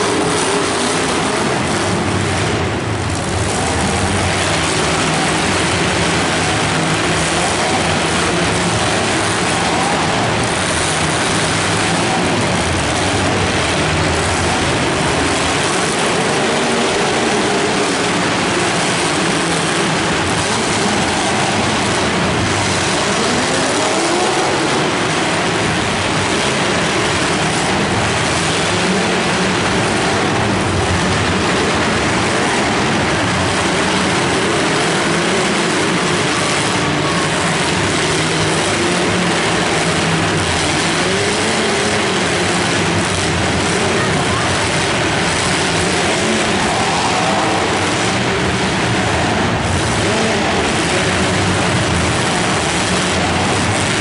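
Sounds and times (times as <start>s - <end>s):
many car engines revving: 0.0s - 54.0s.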